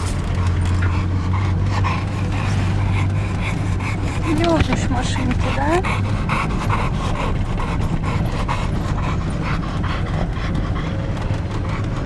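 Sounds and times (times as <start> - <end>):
low engine rumble: 0.0 - 12.0
dog panting: 0.2 - 12.0.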